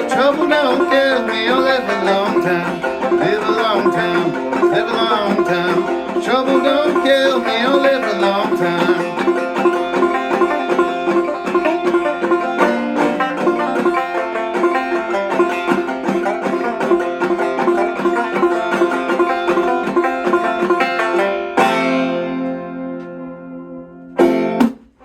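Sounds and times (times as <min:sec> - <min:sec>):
banjo plucking: 0:00.0 - 0:25.0.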